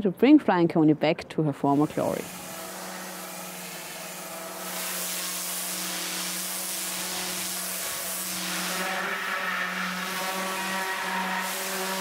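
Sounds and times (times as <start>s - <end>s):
pressure washer water jet hiss: 1.7s - 12.0s
steady motor hum: 1.8s - 12.0s.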